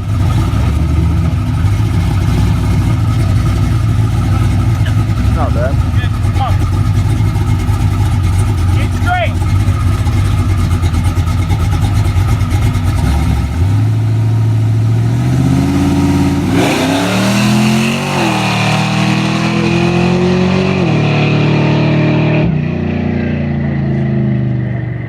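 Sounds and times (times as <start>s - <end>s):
car engine accelerating hard: 0.0s - 25.0s
loud rush: 1.6s - 22.2s.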